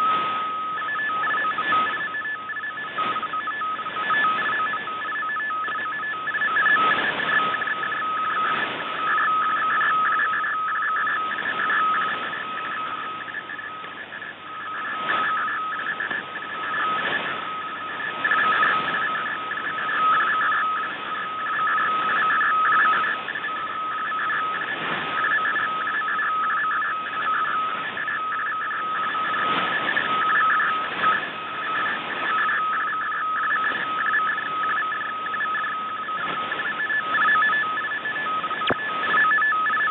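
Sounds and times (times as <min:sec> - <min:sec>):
flickering data tones: 0:00.0 - 0:39.9
radio static hiss: 0:00.0 - 0:39.9.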